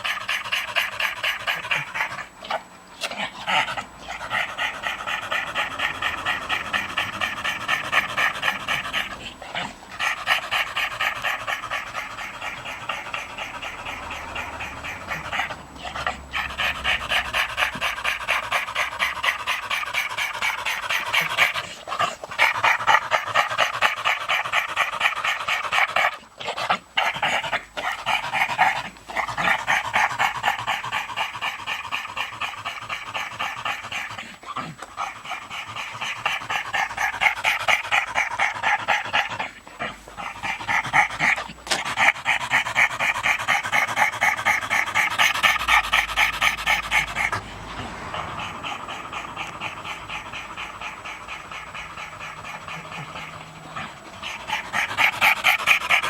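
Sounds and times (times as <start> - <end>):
dog panting with wheezy rasp: 0.0 - 56.0.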